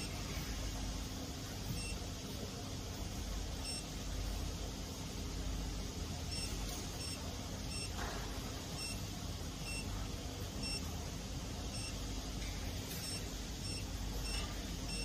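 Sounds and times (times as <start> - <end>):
steady low machine hum: 0.0 - 15.0.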